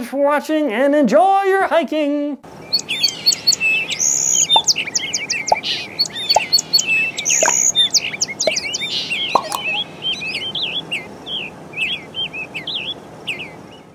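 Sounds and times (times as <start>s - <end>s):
birds chirping: 2.5s - 13.9s.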